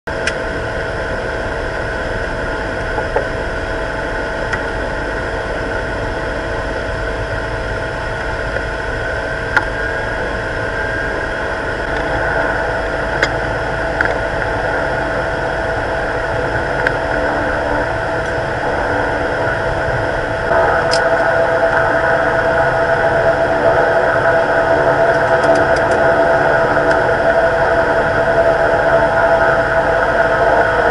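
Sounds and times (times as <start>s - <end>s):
turboprop engine whine: 0.1s - 30.9s.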